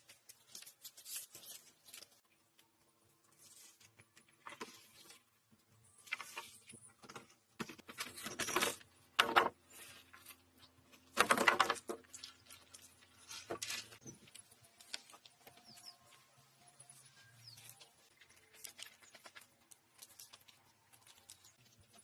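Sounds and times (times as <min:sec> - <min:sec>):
rustling and scraping handwork: 0:00.0 - 0:22.0.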